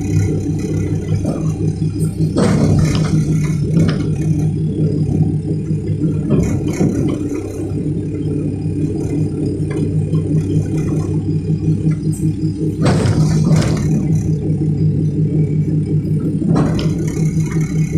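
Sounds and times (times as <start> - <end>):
excavator diesel engine running: 0.0 - 17.9
rattling and clatter: 0.0 - 17.9.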